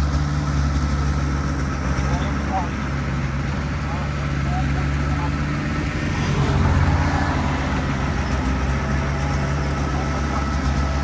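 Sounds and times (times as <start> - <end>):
diesel engine of heavy machinery: 0.0 - 11.0.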